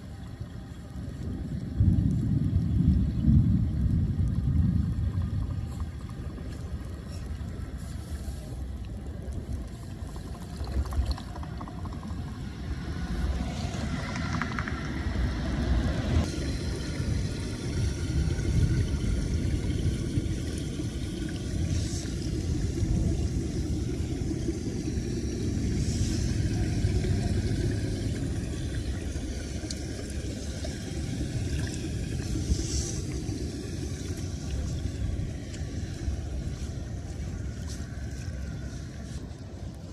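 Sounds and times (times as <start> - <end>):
water rushing into storm drain: 0.0 - 39.9.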